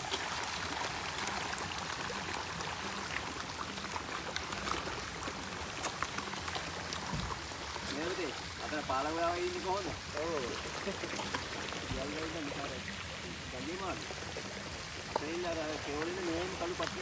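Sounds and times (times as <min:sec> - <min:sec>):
fish splashing at water surface: 0:00.0 - 0:17.0.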